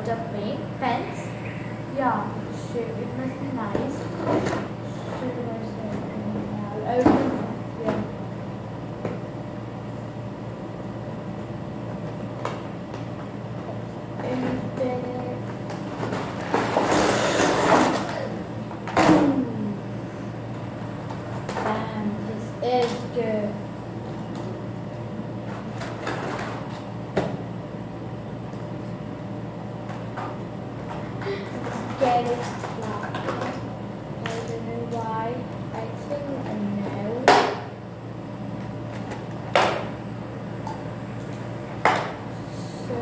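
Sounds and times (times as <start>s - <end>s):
low room hum: 0.0s - 43.0s.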